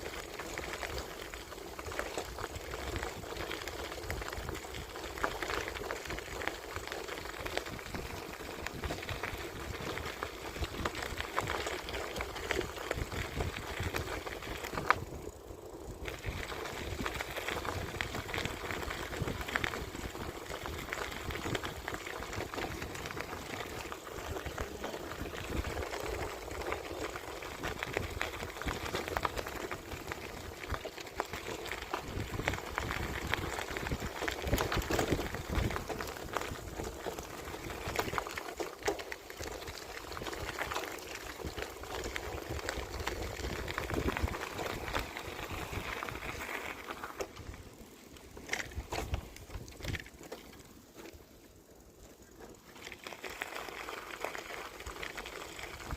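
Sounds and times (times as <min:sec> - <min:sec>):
bicycle tyres rolling: 0:00.0 - 0:55.9
small rattles and clicks: 0:00.0 - 0:55.9.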